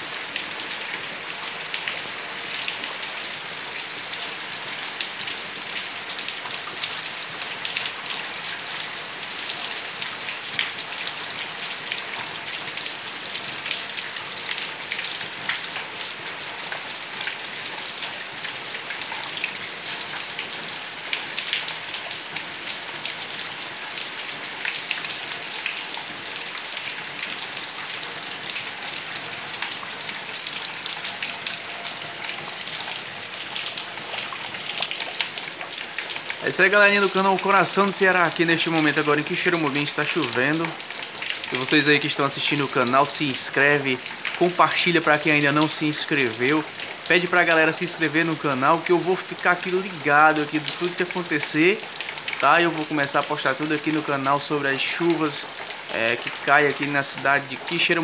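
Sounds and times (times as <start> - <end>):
rain on concrete and puddles: 0.0 - 58.0
raindrops hitting: 0.0 - 58.0.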